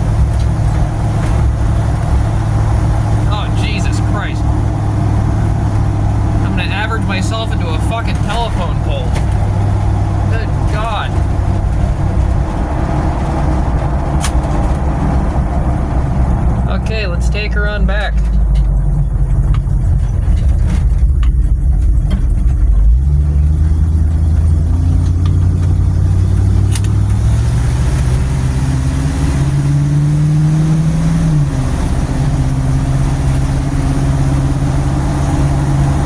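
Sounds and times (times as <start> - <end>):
car engine accelerating: 0.0 - 36.0
road noise: 0.0 - 36.0.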